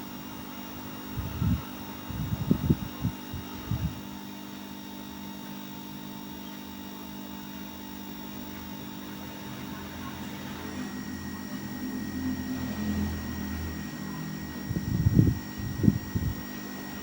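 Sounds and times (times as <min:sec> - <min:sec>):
electrical mains hum and hiss: 0:00.0 - 0:17.0.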